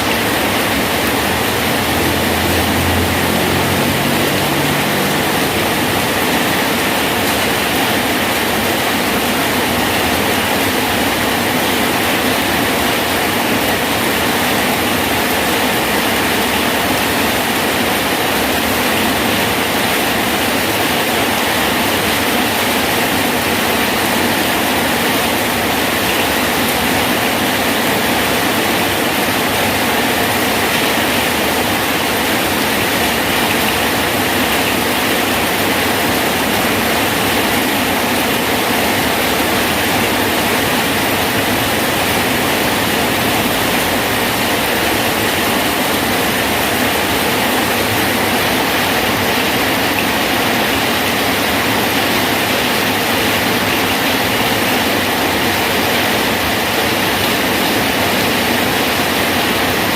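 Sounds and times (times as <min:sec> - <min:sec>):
rain falling on a bridge: 0:00.0 - 0:59.9.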